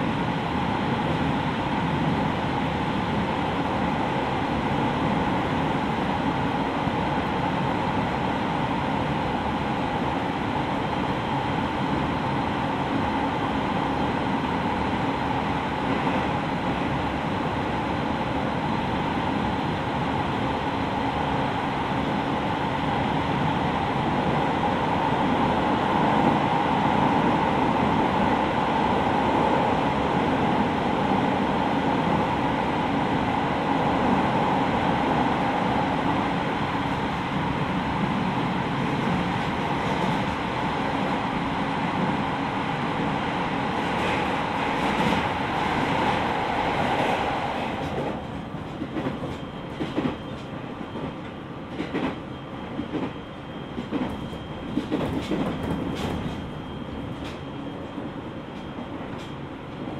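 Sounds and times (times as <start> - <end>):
train wheel and rail rumble: 0.0 - 59.9.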